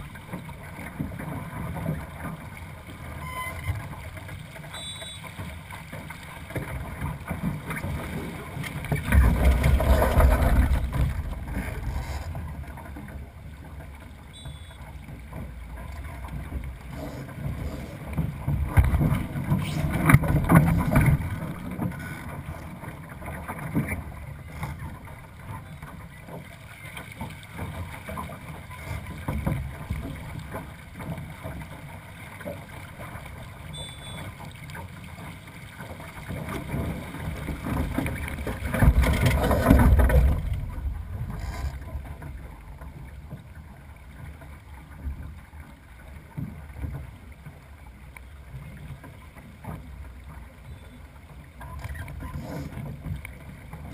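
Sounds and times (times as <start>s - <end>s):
water slapping against hull: 0.0s - 53.9s.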